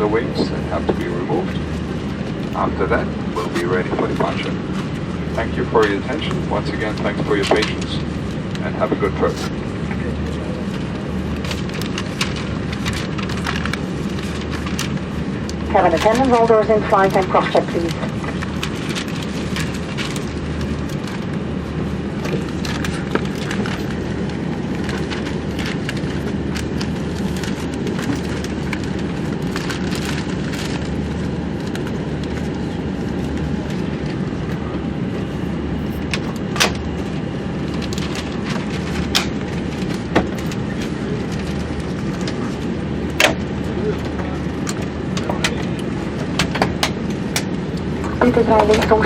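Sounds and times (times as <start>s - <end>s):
aircraft cabin hum: 0.0s - 49.0s.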